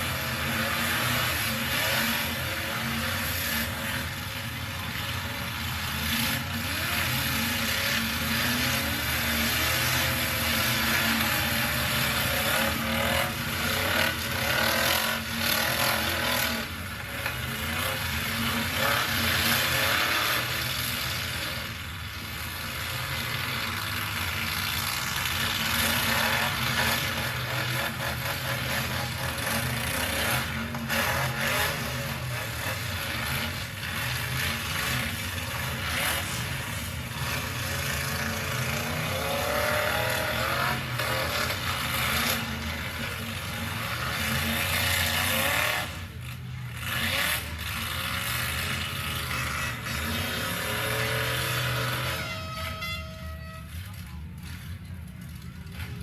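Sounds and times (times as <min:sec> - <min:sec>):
truck engines revving: 0:00.0 - 0:56.0.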